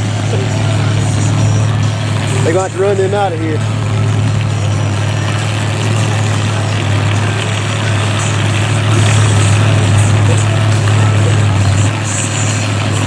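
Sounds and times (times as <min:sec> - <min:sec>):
outdoor noise: 0:00.0 - 0:13.0
vehicle engine running steadily: 0:00.0 - 0:13.0.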